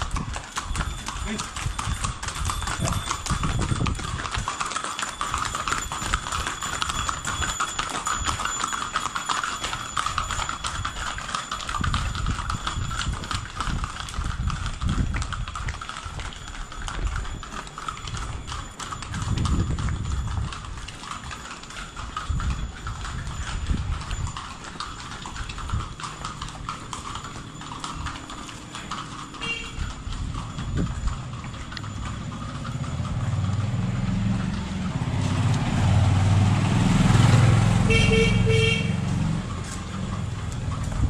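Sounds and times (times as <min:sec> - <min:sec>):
hooves clip-clopping on concrete: 0:00.0 - 0:41.0.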